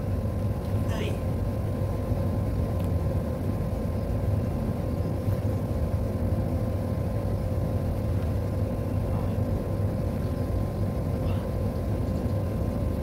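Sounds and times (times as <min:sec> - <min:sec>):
faint constant whine: 0:00.0 - 0:13.0
low machine hum: 0:00.0 - 0:13.0.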